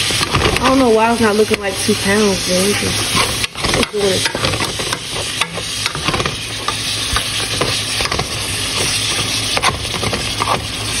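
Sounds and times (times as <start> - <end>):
meat sizzling in a pot: 0.0 - 11.0
metal spoon scraping a pan: 0.0 - 11.0.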